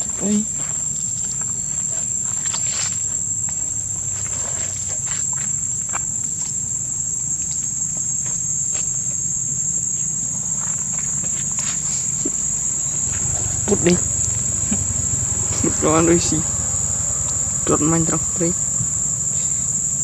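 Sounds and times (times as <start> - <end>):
high-pitched insect drone: 0.0 - 20.0
low steady hum: 0.0 - 20.0.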